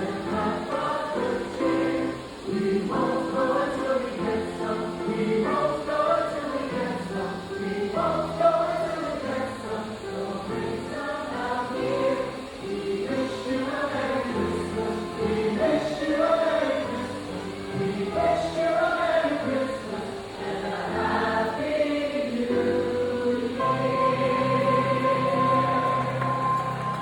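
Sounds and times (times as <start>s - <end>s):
choir singing held chords: 0.0s - 27.0s.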